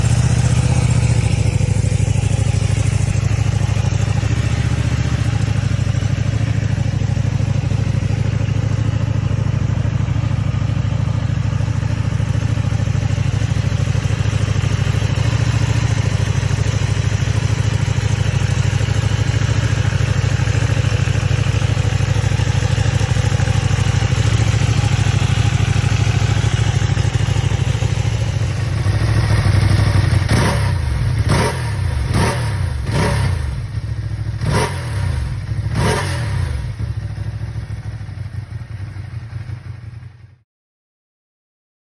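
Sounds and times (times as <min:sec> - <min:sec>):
motorcycle engine idling: 0:00.0 - 0:40.4.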